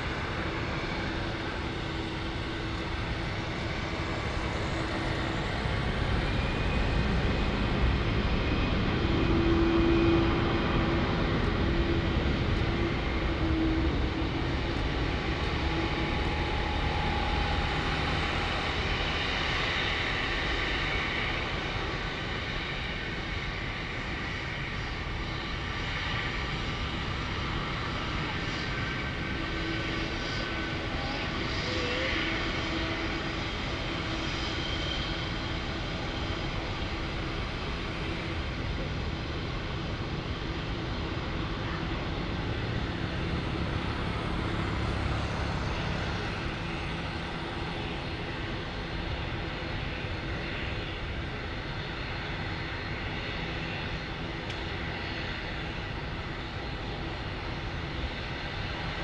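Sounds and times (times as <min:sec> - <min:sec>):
jet airliner taxiing: 0:00.0 - 0:59.0.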